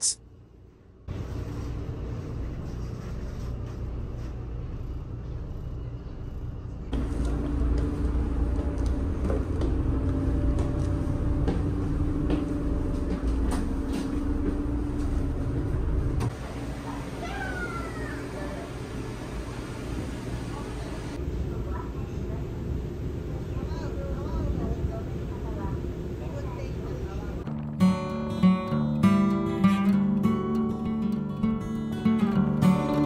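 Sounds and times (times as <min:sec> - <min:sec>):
steady hum: 0:00.0 - 0:28.7.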